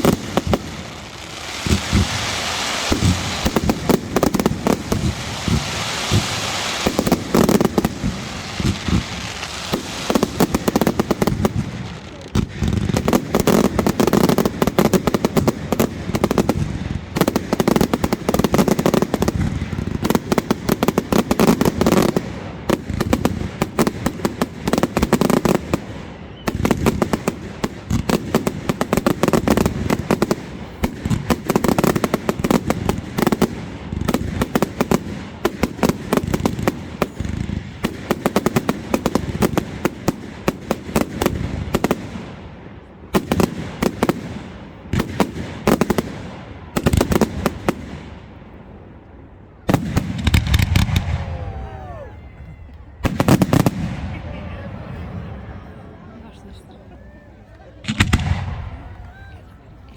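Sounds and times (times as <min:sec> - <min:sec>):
fireworks bangs and crackling: 0:00.0 - 0:56.7, 0:57.8 - 0:59.9.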